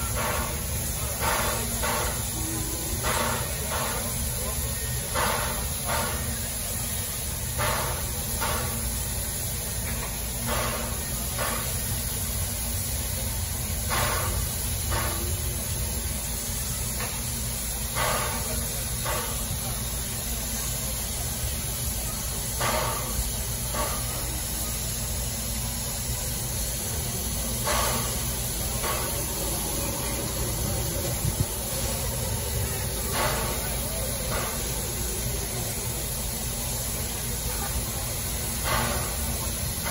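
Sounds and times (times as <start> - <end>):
locomotive short puffs: 0.0 - 39.9
steam hissing: 0.0 - 39.9.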